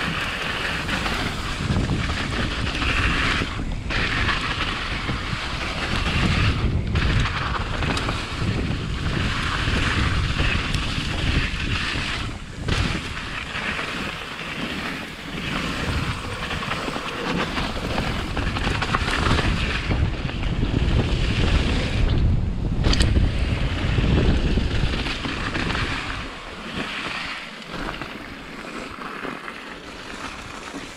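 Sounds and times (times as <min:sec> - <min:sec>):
wind buffeting microphone: 0:00.0 - 0:28.2
bike tyres rumbling over gravel: 0:00.0 - 0:30.9.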